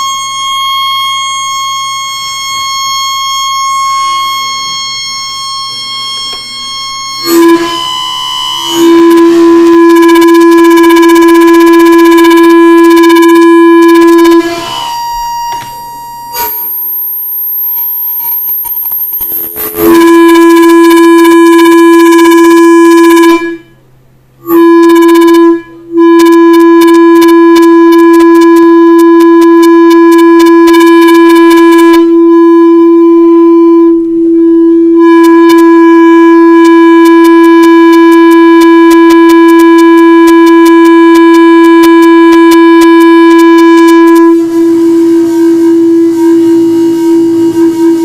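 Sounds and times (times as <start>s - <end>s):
synthesizer drone: 0.0s - 23.8s, 24.4s - 48.0s.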